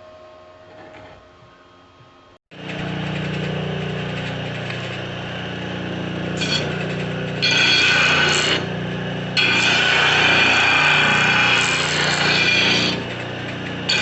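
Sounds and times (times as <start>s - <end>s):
drill press humming: 2.5s - 14.0s.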